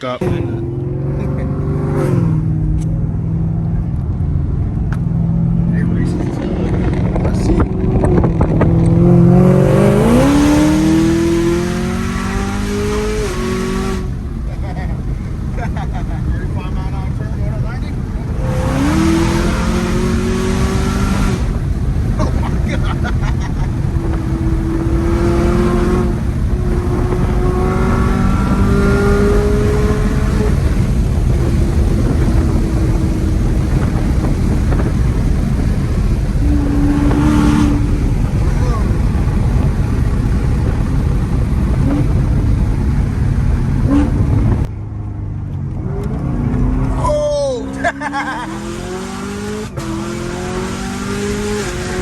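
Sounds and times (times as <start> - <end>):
supercharged car engine accelerating: 0.0 - 44.7, 45.6 - 52.0.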